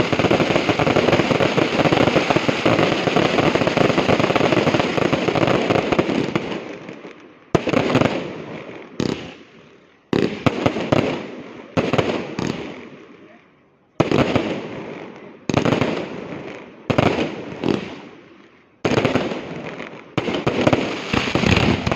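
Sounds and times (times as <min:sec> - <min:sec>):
fireworks bangs and crackling: 0:00.0 - 0:13.4, 0:14.0 - 0:21.9.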